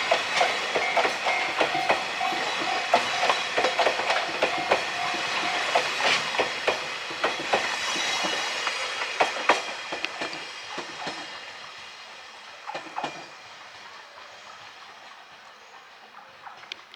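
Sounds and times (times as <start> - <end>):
train wheels clicking over rail joints: 0.0 - 11.9, 12.6 - 16.9
train rumble: 0.0 - 16.9.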